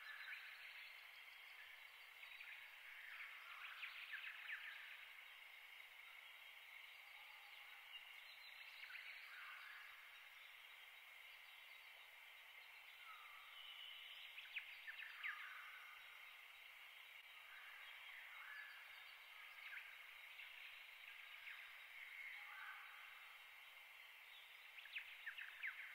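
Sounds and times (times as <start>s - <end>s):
faint background hiss: 0.0s - 25.9s.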